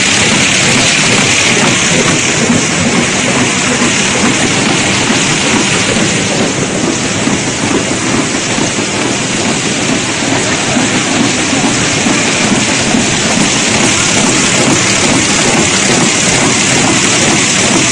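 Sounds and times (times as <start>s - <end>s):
box forming machine running: 0.0s - 7.9s, 9.5s - 17.9s.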